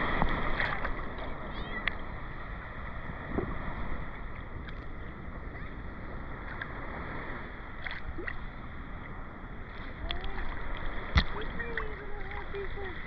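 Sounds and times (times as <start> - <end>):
ocean waves lapping at beach: 0.0 - 13.0.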